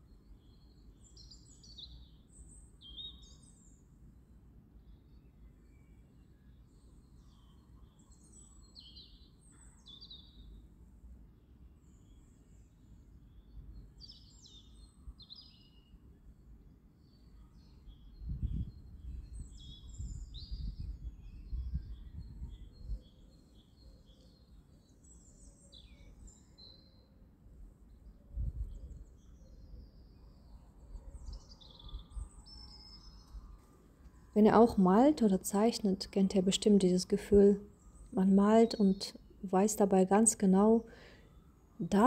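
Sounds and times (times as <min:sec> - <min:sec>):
small birds chirping: 0:00.1 - 0:03.8, 0:06.5 - 0:10.6, 0:11.9 - 0:16.0, 0:17.0 - 0:27.2, 0:27.8 - 0:42.0.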